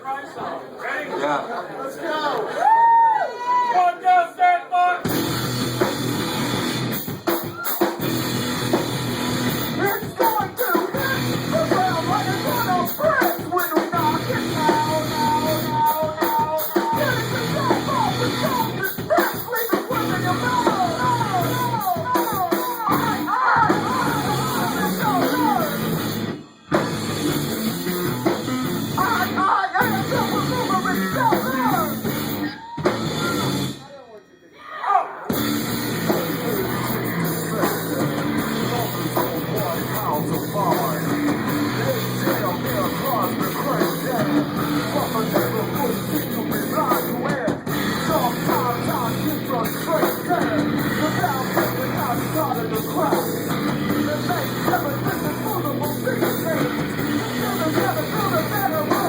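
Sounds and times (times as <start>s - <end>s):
guitar rock music: 5.0s - 34.0s, 35.2s - 59.0s.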